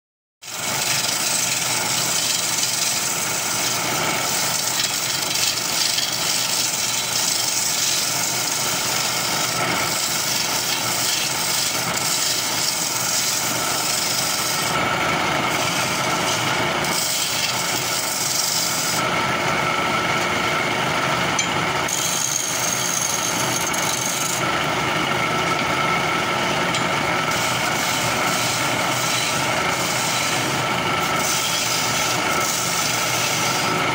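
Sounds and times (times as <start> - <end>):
wood lathe humming: 0.4 - 33.9
chisel scraping wood: 0.5 - 19.1, 21.2 - 33.9.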